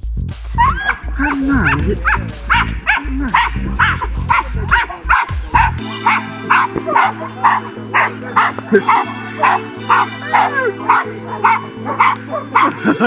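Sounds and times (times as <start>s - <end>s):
background music: 0.0s - 13.0s
dog barking: 0.7s - 12.8s.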